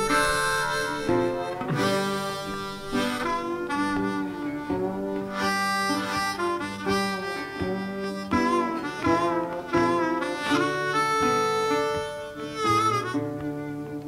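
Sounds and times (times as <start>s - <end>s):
harmonica music: 0.0s - 14.0s.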